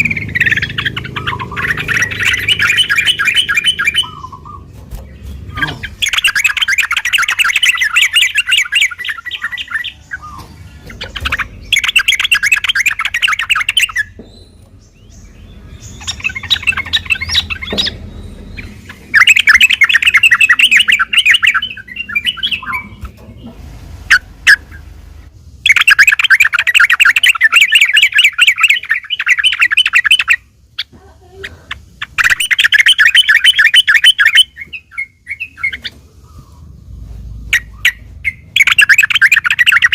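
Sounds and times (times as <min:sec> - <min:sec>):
bulbul singing chattering phrases: 0:00.0 - 0:23.2, 0:25.6 - 0:36.8, 0:37.5 - 0:39.9.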